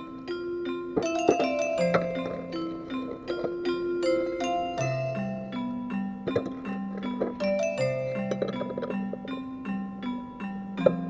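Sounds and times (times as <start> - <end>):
mallet notes over bass notes: 0.0 - 11.0.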